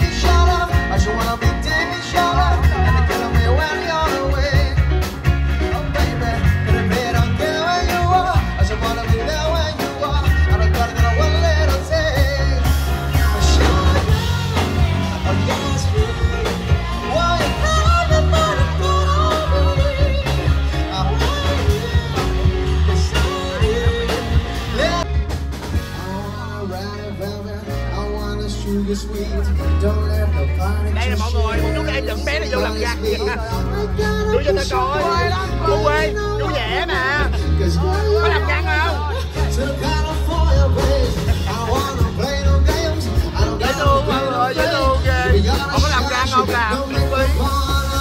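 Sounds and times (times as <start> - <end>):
man and woman singing: 0.0 - 25.2, 25.8 - 48.0
live band playing: 0.0 - 48.0.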